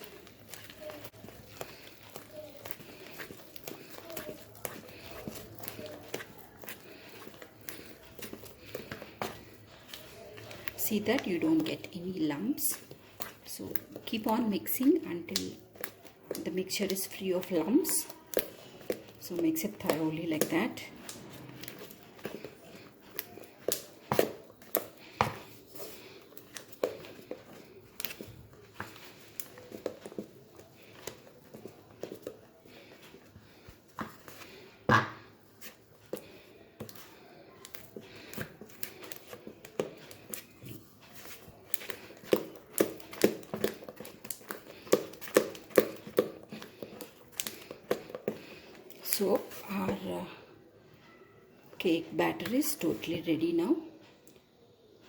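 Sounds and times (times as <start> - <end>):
wet batter mixing: 0.0 - 55.0.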